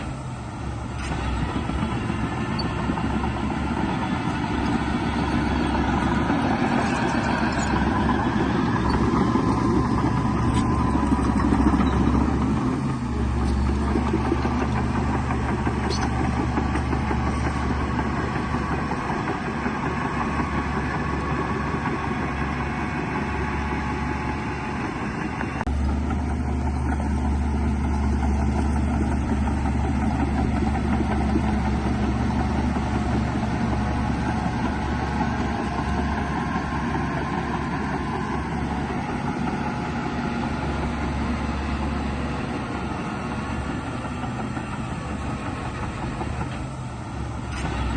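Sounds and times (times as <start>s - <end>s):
heavy diesel machinery running: 0.0s - 47.9s.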